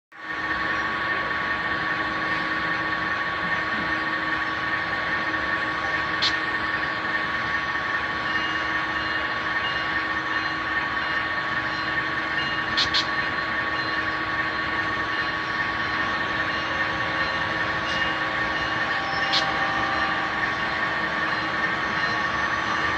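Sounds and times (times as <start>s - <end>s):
model locomotive idling hum: 0.2s - 22.9s.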